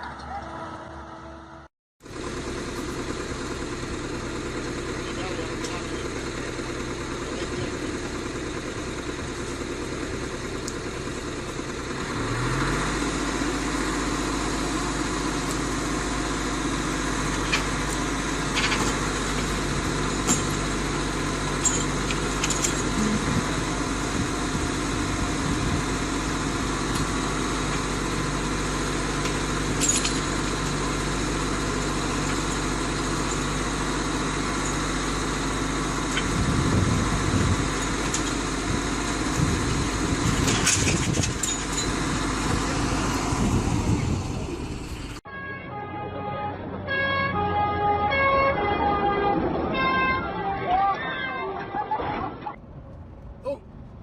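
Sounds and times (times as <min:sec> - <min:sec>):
heavy vehicle engine running: 0:00.0 - 0:51.9.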